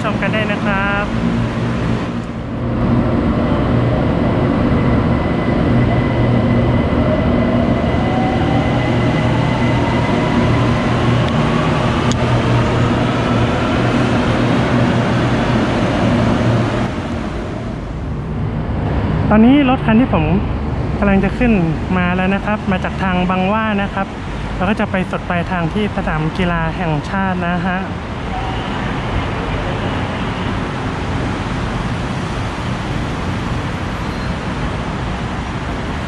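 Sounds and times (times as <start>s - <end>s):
electric train rumbling: 0.0s - 36.0s.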